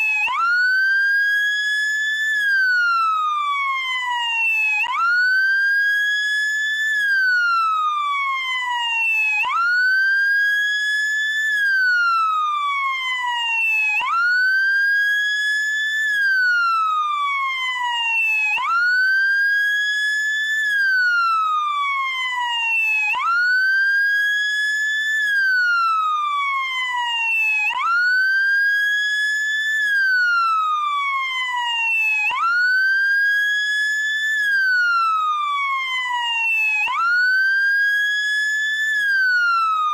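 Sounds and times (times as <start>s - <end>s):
electronic wail siren: 0.0s - 39.9s.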